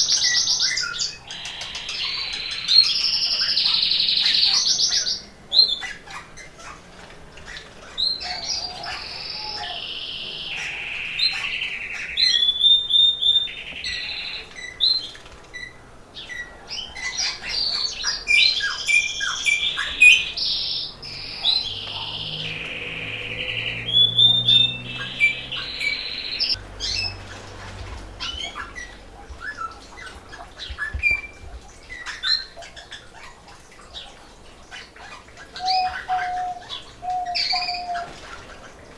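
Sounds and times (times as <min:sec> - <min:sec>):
canaries singing: 0:00.0 - 0:38.9.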